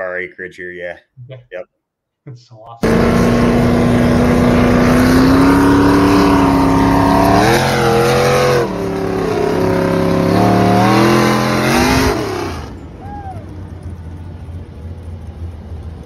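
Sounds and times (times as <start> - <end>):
tractor engine revving: 2.8 - 16.0.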